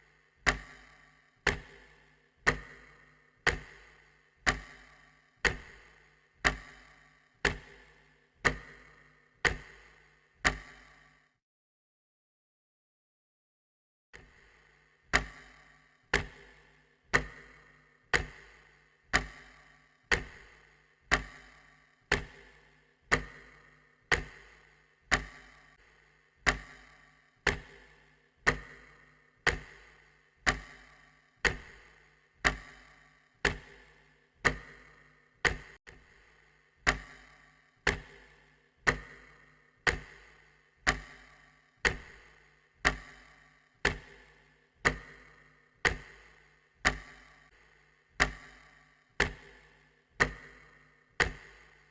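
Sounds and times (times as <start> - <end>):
clock ticking: 0.0 - 11.2, 14.2 - 51.9.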